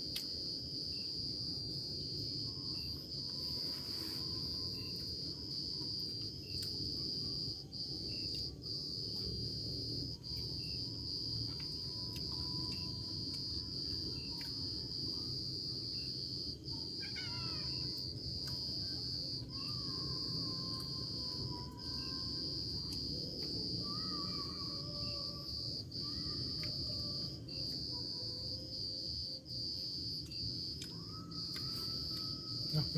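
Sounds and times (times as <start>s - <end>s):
insects chirring chorus: 0.0s - 32.9s.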